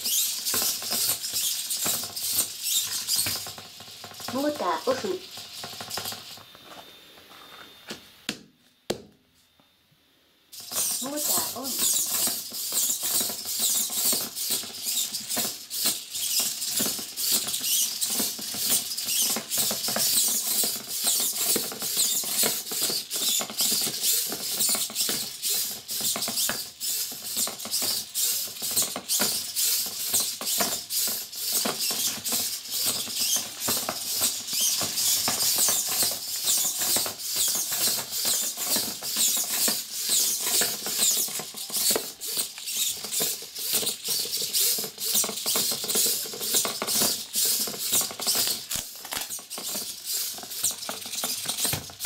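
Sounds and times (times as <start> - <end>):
small servo motors: 0.0 - 6.6, 10.5 - 52.0.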